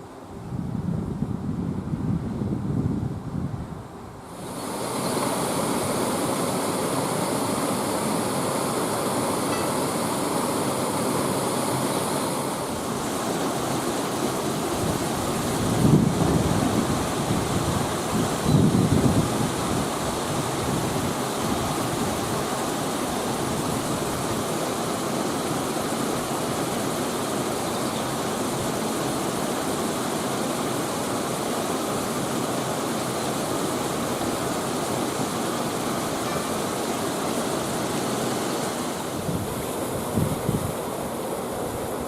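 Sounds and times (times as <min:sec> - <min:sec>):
water rushing: 0:04.2 - 0:42.0.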